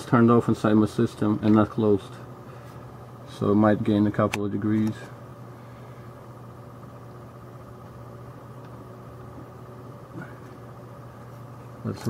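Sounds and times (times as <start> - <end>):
graphics card fans humming: 0.0 - 12.0.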